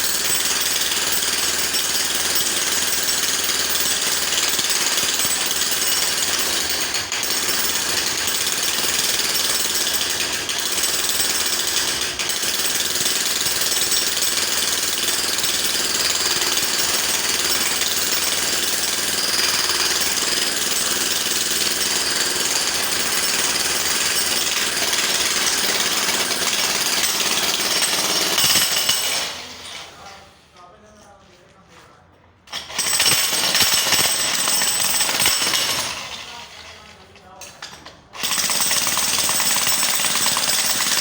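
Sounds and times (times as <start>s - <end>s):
jackhammer rattling: 0.0s - 30.0s, 32.5s - 36.9s, 38.1s - 41.0s.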